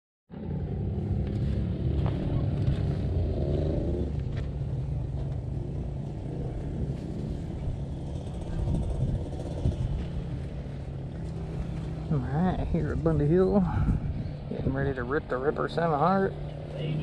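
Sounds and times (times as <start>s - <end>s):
vehicle engine idling: 0.7s - 17.0s.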